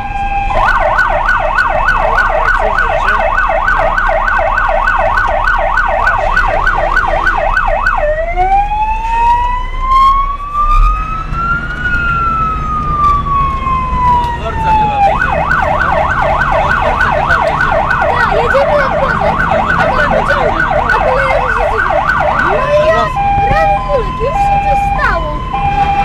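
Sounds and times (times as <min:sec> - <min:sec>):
electronic siren yelp and wail: 0:00.0 - 0:26.0.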